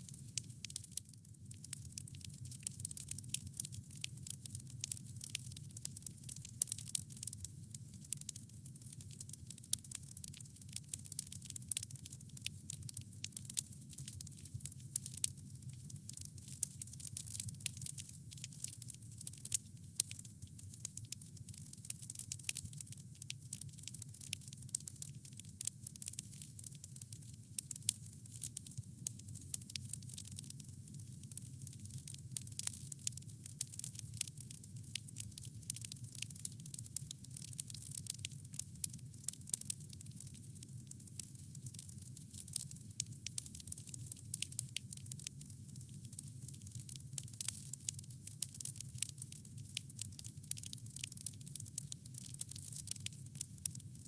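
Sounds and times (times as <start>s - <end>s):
wood fire crackling and popping: 0.0s - 53.8s.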